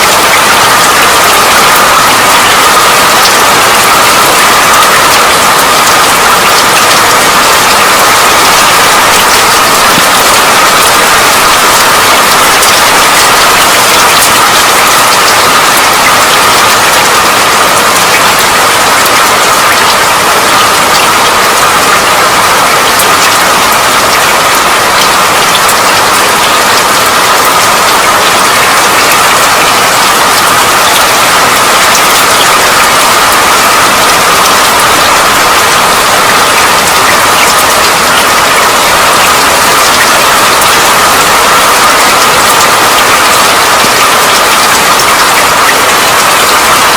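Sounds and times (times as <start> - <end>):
heavy rain hissing: 0.0 - 46.9
raindrops ticking on a surface: 0.0 - 46.9.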